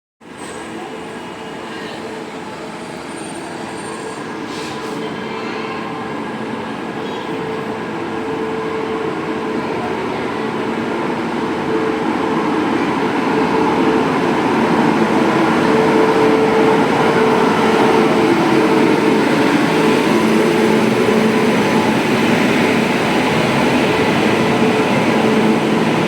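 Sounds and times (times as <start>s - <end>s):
train rumbling on rails: 0.2s - 26.0s.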